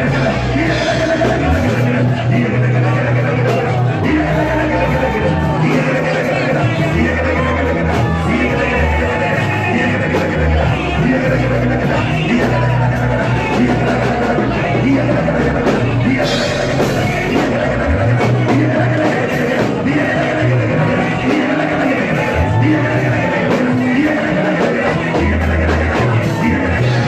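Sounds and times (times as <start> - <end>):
band playing worship music: 0.0 - 27.0
voices singing: 0.0 - 27.0.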